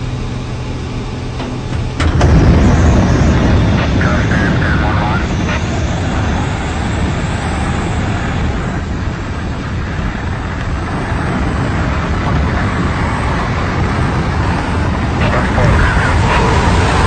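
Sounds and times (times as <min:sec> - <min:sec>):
airplane engine drone: 0:00.0 - 0:17.0
rushing wind: 0:01.9 - 0:17.0.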